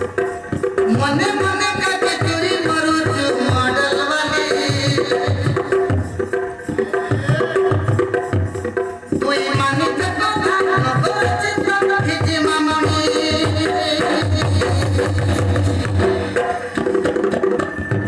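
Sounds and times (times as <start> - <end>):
steady drum beat: 0.0 - 18.0.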